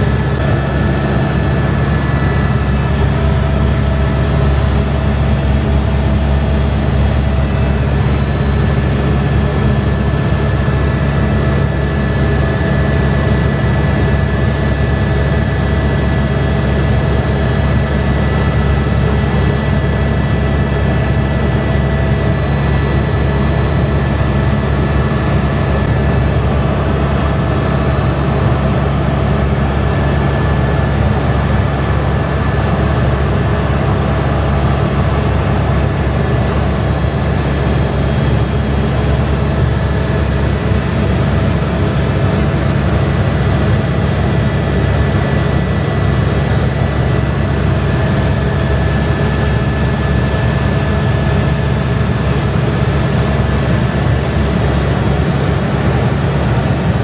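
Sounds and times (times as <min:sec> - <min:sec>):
helicopter rotor drone: 0:00.0 - 0:57.0.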